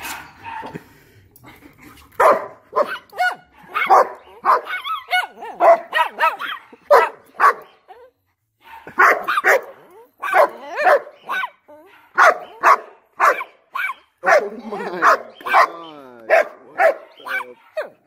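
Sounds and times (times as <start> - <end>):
dog barking: 2.2 - 7.7, 8.6 - 18.0.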